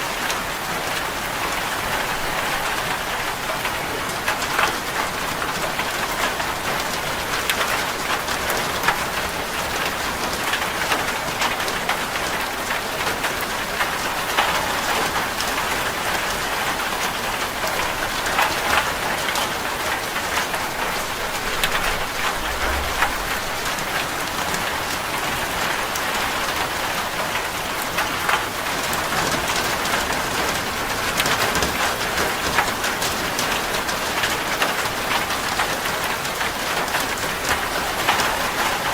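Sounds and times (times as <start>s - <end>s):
rain on a metal roof: 0.0s - 38.9s.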